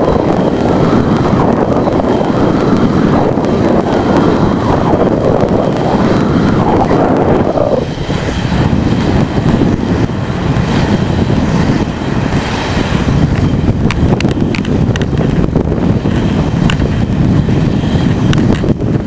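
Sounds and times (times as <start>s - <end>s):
wheels rolling on road: 0.0s - 19.0s
wind rumbling on microphone: 0.0s - 19.0s.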